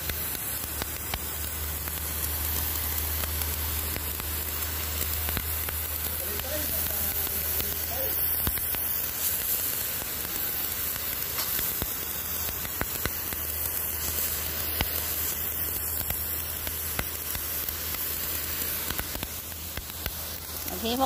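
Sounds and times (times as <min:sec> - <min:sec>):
pressure water jet spraying: 0:00.0 - 0:21.0
water spattering on concrete: 0:00.0 - 0:21.0.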